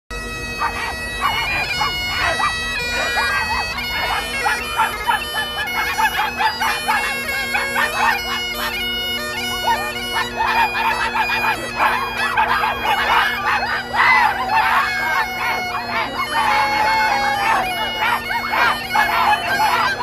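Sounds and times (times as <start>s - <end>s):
bagpipes playing a tune: 0.1s - 20.0s
crowd barking and yelping: 0.4s - 20.0s.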